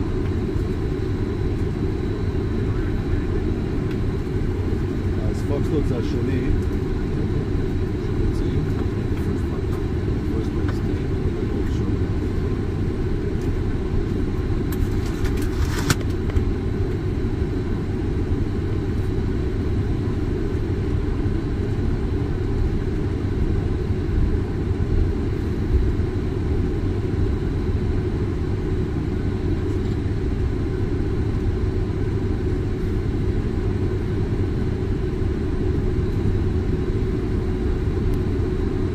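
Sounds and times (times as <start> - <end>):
jet engine and ground roll rumble: 0.0 - 38.9.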